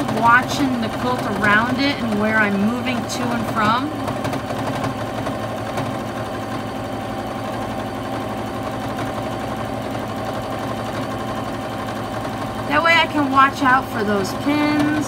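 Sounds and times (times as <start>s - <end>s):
sewing machine stitching rapidly: 0.0s - 15.0s.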